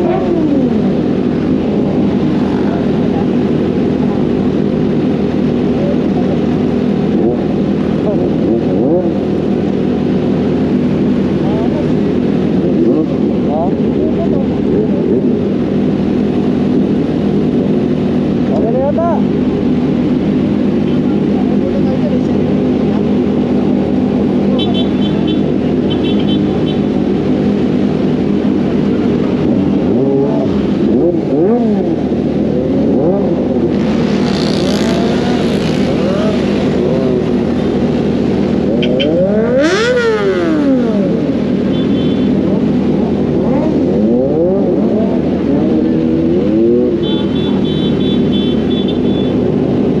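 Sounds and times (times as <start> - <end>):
motorcycles idling and revving: 0.0 - 50.0.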